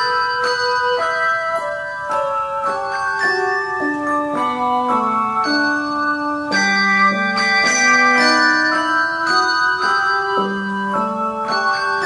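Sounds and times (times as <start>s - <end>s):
handbells playing a hymn: 0.0s - 12.0s.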